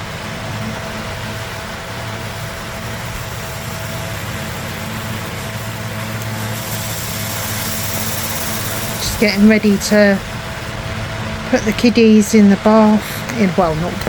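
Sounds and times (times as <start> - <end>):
machine hum with hiss: 0.0 - 14.0.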